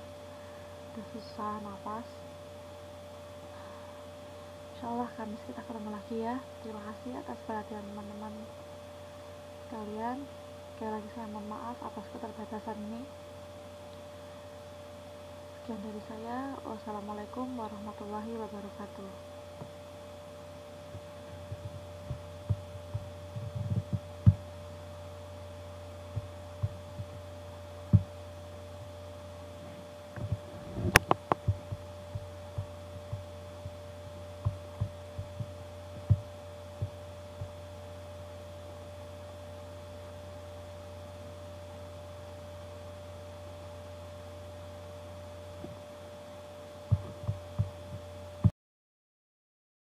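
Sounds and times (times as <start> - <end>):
low electrical hum: 0.0 - 48.5.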